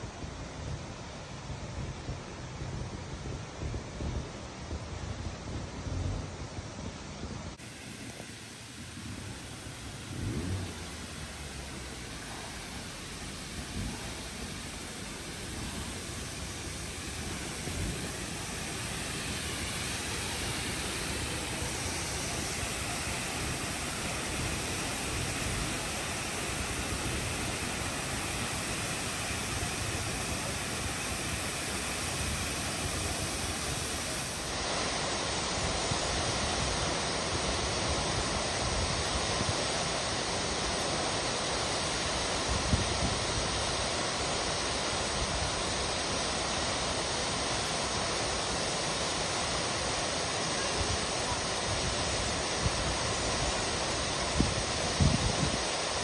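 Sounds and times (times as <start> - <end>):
waterfall rushing: 7.6 - 56.0.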